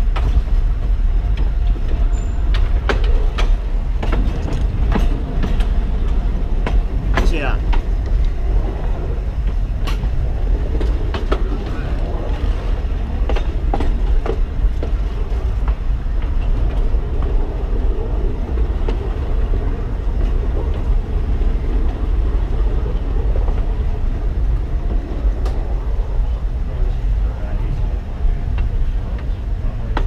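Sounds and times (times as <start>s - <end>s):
train rumbling along track: 0.0s - 30.0s.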